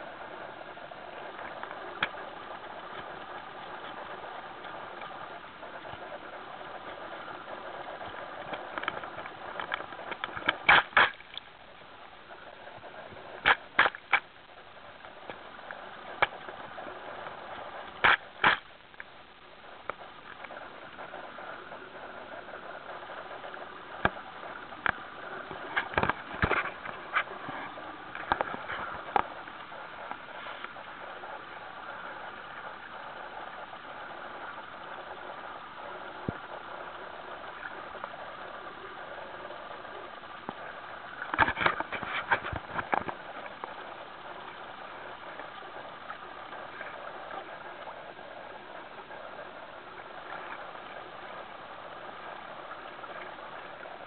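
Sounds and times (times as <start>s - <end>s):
pedal drive and propeller whirring: 0.0s - 54.0s
water rushing along hull: 0.0s - 54.0s.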